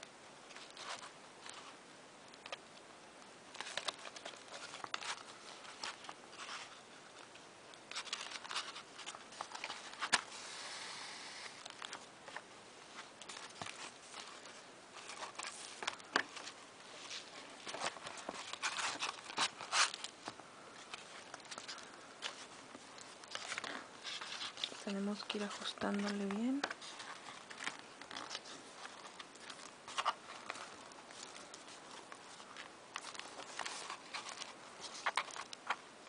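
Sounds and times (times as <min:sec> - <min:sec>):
paper rustling: 0:00.4 - 0:02.7, 0:03.5 - 0:36.0.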